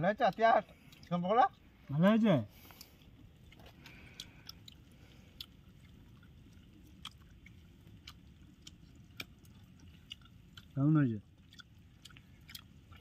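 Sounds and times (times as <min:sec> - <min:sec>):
chewing crisp fried food: 0:00.0 - 0:13.0.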